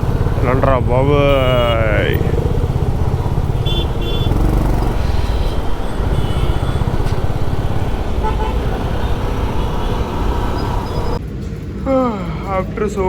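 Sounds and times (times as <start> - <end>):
vehicle horn toots: 0.0 - 11.2
motorcycle engine rumble: 0.0 - 11.4.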